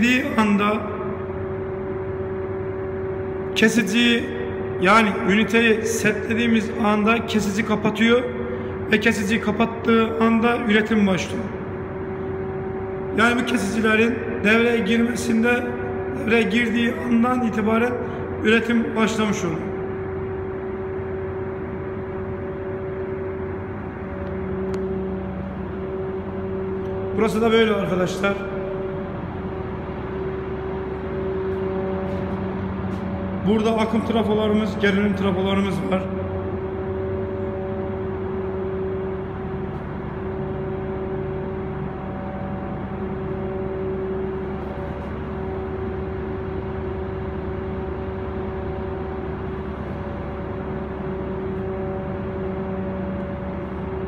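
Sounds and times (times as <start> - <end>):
electrical hum of switchgear: 0.0 - 54.0.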